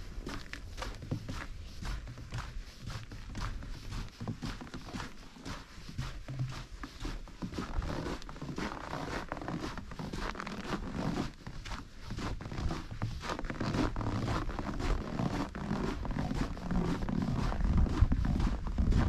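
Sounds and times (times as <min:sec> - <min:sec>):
footsteps crunching: 0:00.0 - 0:19.0.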